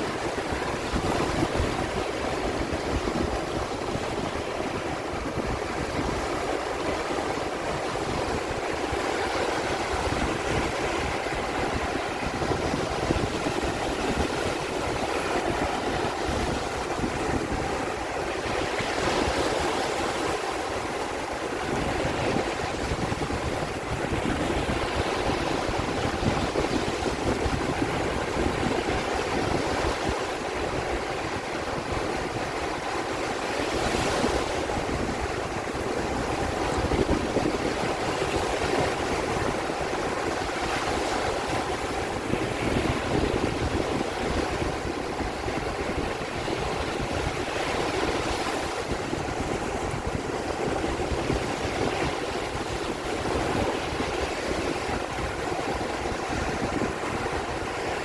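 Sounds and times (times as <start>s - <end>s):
sea waves washing: 0.0s - 58.0s
wind buffeting microphone: 0.0s - 58.0s.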